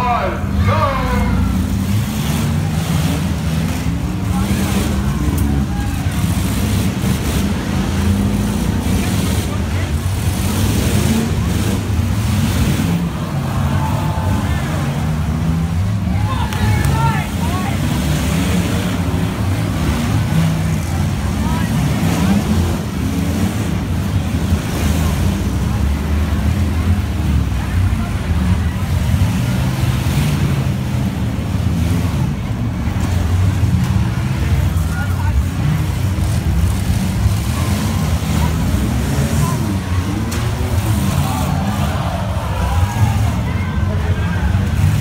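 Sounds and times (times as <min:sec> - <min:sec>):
car engines running loudly: 0:00.0 - 0:45.0
crowd noise: 0:00.0 - 0:45.0.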